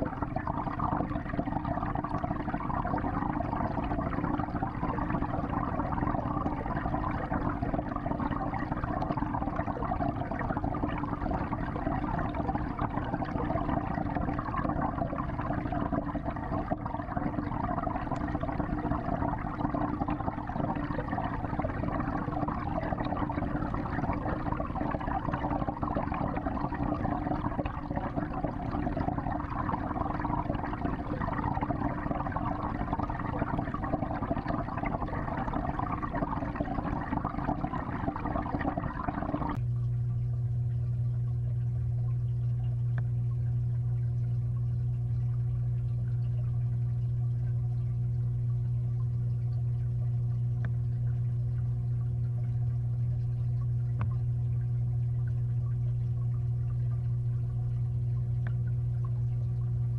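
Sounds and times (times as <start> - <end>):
aquarium water rushing: 0.0 - 59.9
low hum with faint hiss: 0.0 - 59.9.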